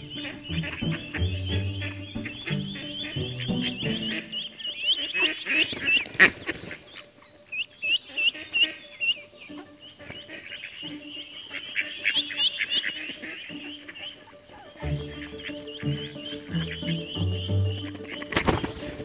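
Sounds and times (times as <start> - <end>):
ducklings peeping: 0.0 - 19.0.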